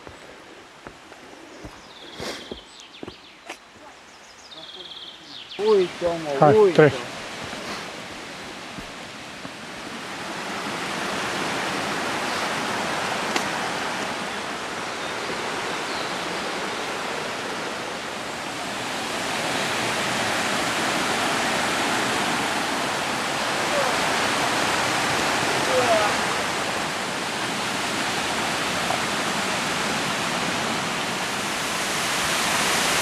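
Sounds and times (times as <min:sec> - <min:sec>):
waterfall rushing: 0:04.6 - 0:33.0.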